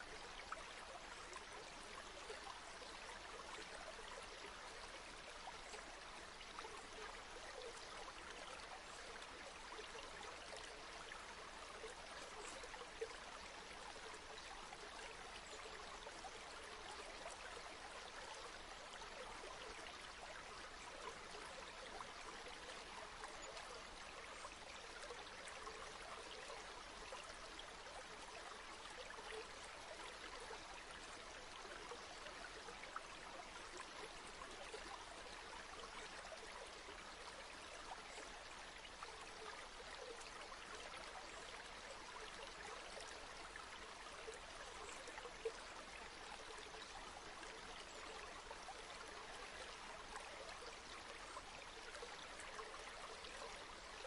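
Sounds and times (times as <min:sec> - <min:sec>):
river water flowing over stones: 0:00.0 - 0:54.0.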